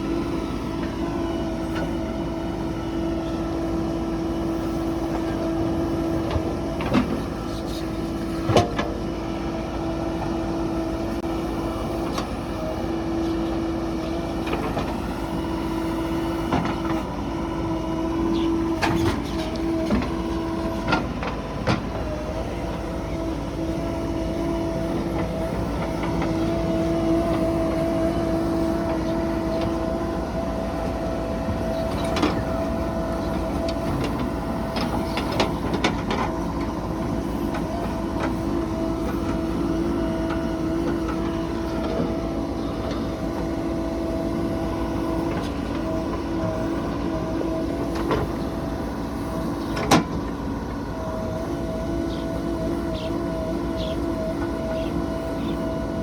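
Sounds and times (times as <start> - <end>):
diesel engine under load: 0.0 - 56.0
hydraulic whine: 0.0 - 56.0.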